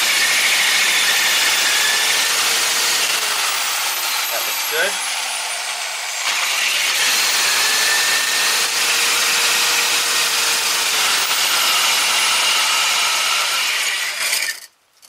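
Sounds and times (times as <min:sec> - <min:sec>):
drill grinding through concrete: 0:00.0 - 0:14.7.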